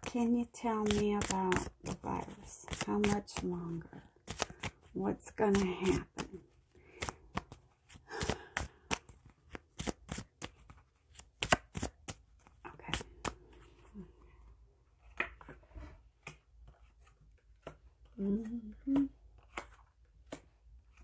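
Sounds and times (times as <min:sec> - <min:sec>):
cards shuffling: 0:00.8 - 0:13.9, 0:15.0 - 0:18.2, 0:19.0 - 0:21.0.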